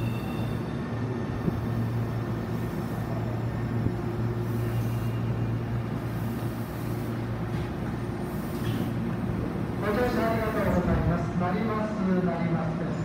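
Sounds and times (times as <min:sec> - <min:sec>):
electric train stopping: 0:00.0 - 0:11.1
train equipment humming: 0:00.0 - 0:12.0.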